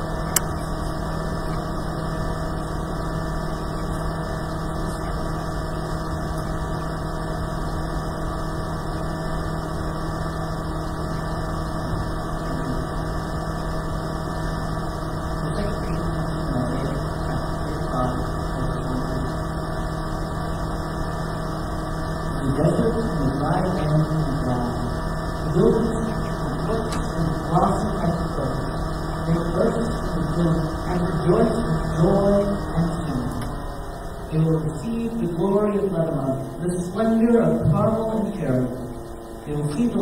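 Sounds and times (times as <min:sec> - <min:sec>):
droning hum with hiss: 0:00.0 - 0:40.0.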